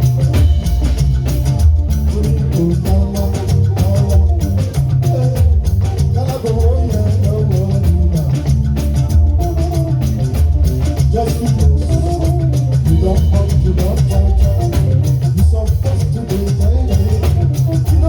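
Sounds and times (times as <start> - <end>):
drums and percussion: 0.0 - 18.0
live band playing dance music: 0.0 - 18.0.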